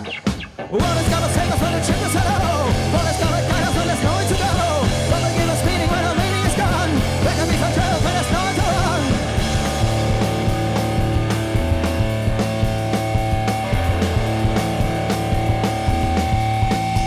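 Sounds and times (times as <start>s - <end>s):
live punk rock band playing: 0.0s - 17.0s
sustained guitar chords: 0.0s - 17.0s.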